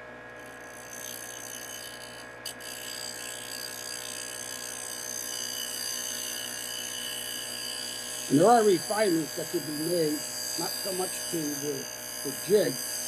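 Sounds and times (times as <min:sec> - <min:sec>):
lathe thread cutter humming: 0:00.0 - 0:13.0.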